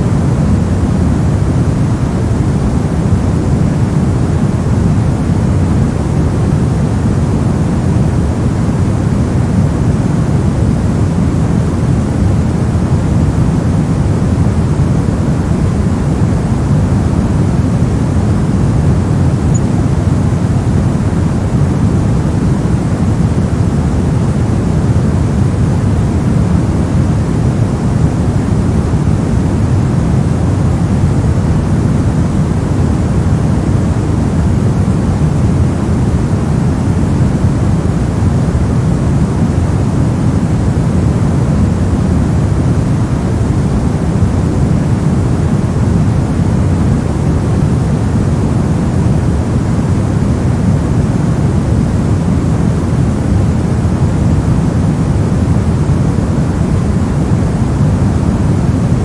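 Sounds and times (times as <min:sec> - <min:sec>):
low rumbling white noise: 0:00.0 - 0:59.0.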